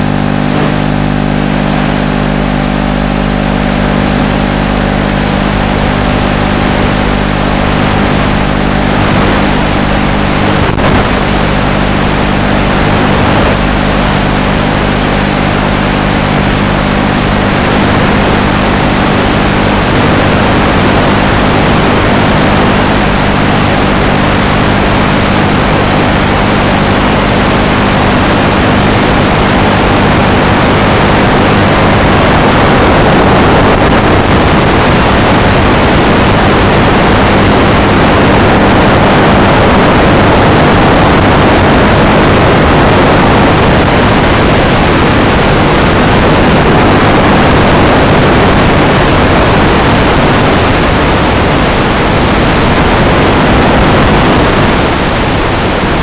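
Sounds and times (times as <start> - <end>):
static hiss: 3.7 - 56.0.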